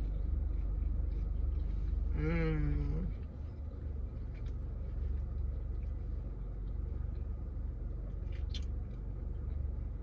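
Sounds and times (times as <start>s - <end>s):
person chewing: 0.0s - 2.4s, 3.1s - 10.0s.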